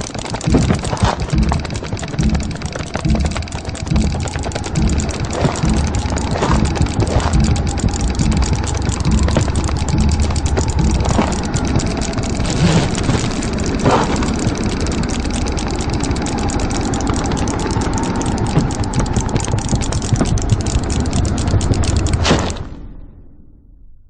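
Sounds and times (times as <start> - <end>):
fast irregular clicking: 0.0 - 22.8.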